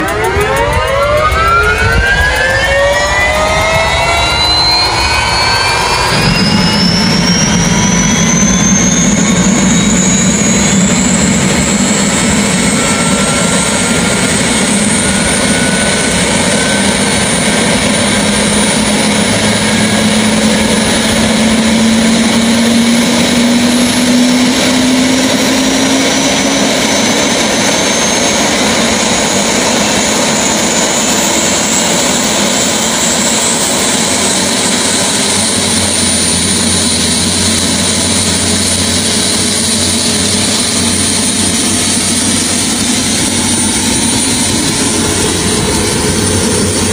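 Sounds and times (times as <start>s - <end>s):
deep engine rumble: 0.0s - 46.9s
helicopter turbine whine: 0.0s - 46.9s.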